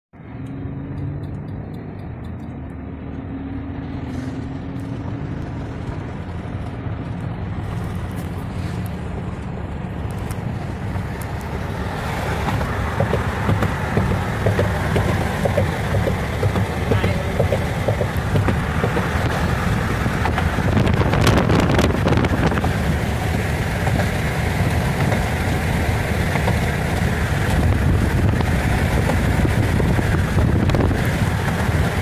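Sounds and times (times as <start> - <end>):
car road noise rumble: 0.1 - 32.0.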